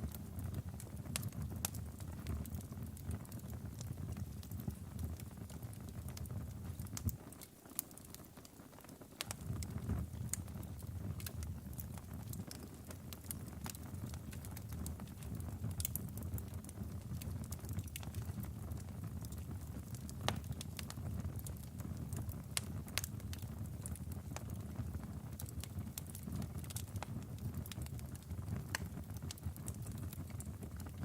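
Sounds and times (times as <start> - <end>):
fire popping and snapping: 0.0 - 31.0
log fire crackling: 0.0 - 31.0
low rumble of burning: 0.0 - 31.0.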